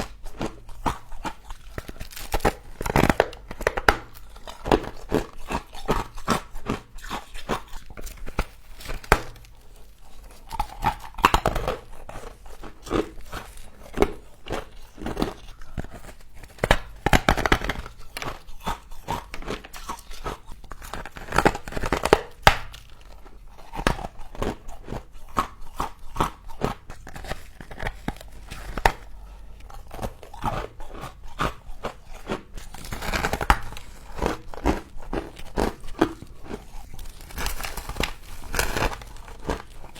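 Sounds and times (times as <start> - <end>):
crunchy frost being chewed: 0.0 - 39.9.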